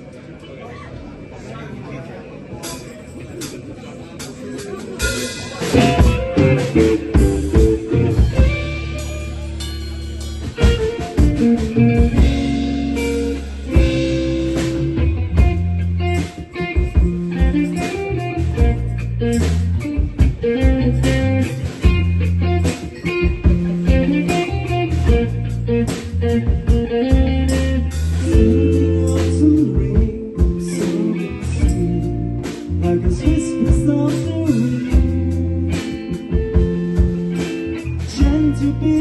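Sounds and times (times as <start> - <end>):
rock band playing slow song: 2.6 - 39.0.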